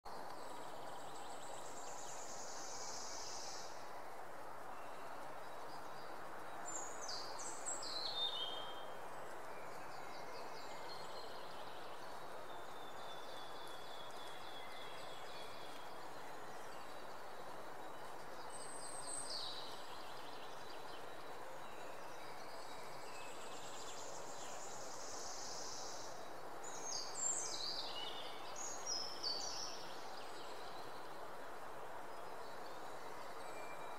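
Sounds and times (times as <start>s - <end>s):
small songbirds singing: 0.1s - 33.9s
steady background hiss: 0.1s - 33.9s.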